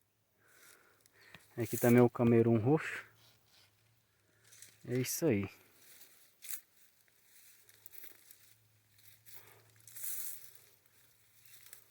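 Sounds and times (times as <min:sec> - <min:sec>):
faint rustling and crinkling: 0:00.4 - 0:11.9.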